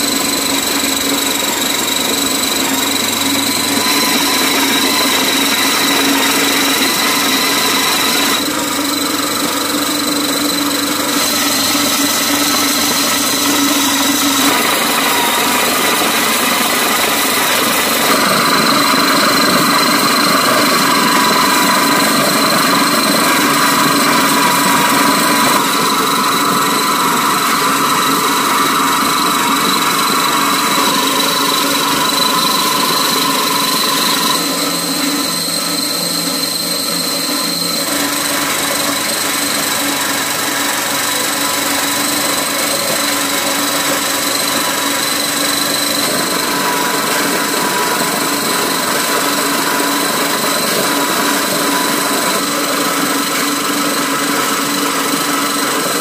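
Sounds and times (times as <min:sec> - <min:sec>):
grain mill grinding with whine: 0:00.0 - 0:56.0.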